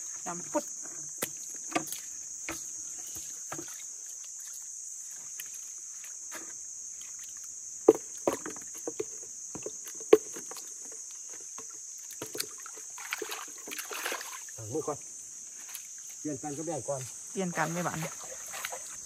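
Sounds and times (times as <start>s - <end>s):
high insect drone: 0.0s - 19.0s
water sloshing and splashing: 0.2s - 19.0s.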